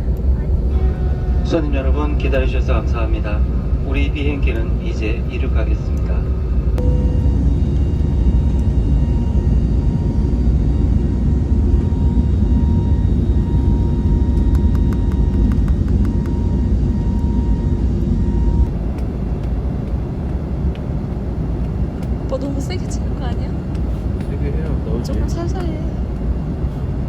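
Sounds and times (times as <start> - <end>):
jet engine roar in cabin: 0.0 - 27.0.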